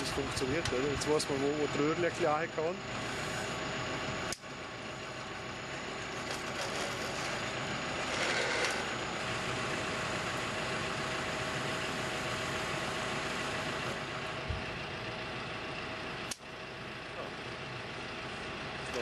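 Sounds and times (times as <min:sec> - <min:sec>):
drill rig engine running: 0:00.0 - 0:19.0.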